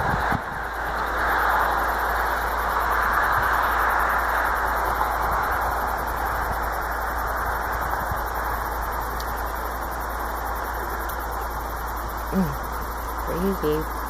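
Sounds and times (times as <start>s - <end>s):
static-like hiss: 0.0s - 14.0s.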